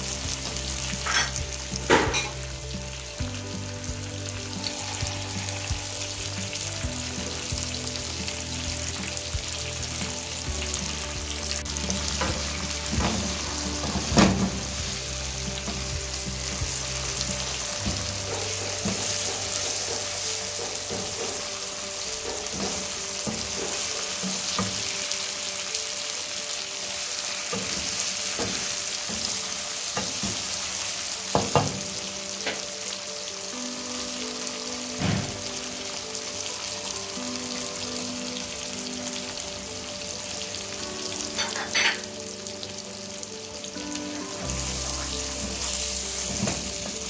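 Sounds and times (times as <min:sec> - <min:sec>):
chicken frying in oil: 0:00.0 - 0:47.0.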